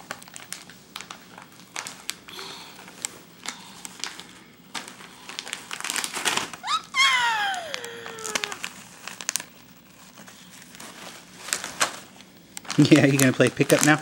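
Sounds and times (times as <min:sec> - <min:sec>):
plastic snack bag crinkling: 0:00.0 - 0:14.0.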